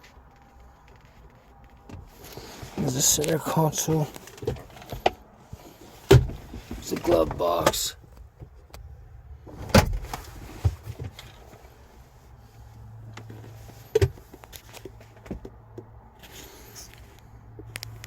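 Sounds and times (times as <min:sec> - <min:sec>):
clicks and knocks in car interior: 0:00.1 - 0:11.9, 0:13.1 - 0:16.3.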